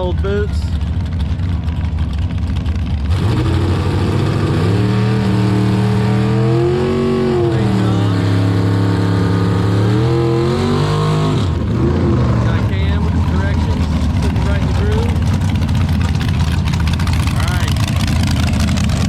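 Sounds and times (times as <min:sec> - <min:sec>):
dragster engine revving: 0:00.0 - 0:19.0.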